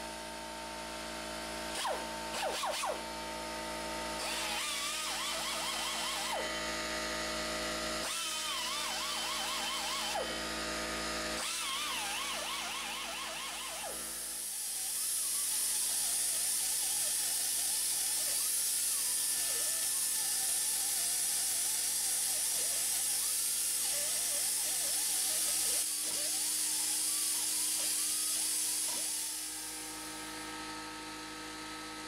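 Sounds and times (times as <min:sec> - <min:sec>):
air rotary tool whining: 0:01.2 - 0:31.1.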